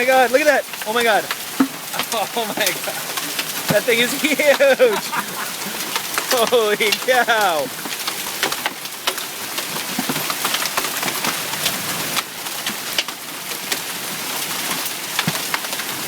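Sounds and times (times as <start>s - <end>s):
heavy hail pelting: 0.0s - 16.0s.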